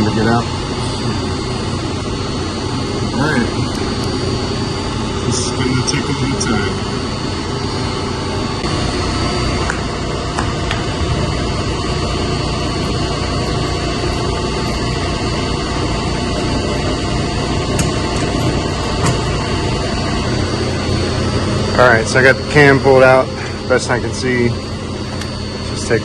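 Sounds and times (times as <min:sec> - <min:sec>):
chiller compressor drone: 0:00.0 - 0:26.0.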